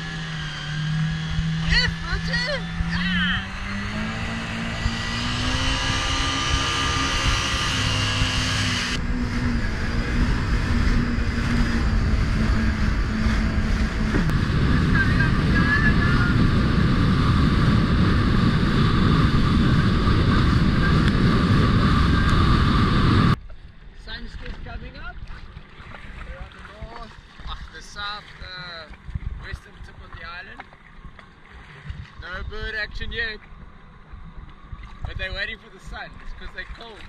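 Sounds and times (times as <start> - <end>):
jet ski engine: 0.0 - 23.5, 24.1 - 37.0
rushing wind and water: 0.0 - 37.0.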